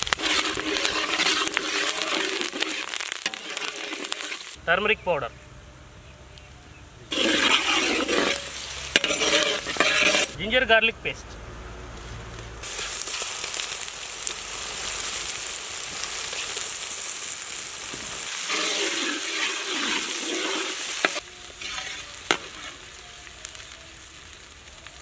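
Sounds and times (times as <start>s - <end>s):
onions sizzling in hot oil: 0.0s - 4.6s, 7.1s - 10.4s, 12.4s - 25.0s.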